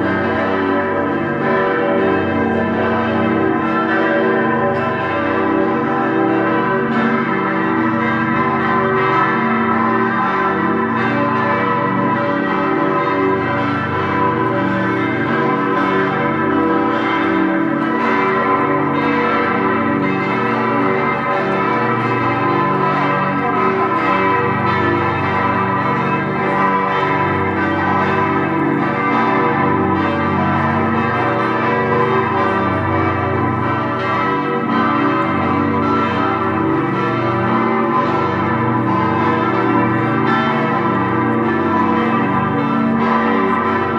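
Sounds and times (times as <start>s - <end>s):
church bells ringing in full peal: 0.0s - 43.9s.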